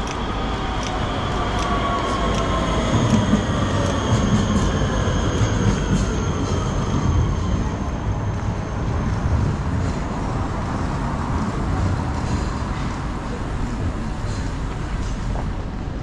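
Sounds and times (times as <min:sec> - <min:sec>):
rail vehicle rumbling past: 0:00.0 - 0:16.0.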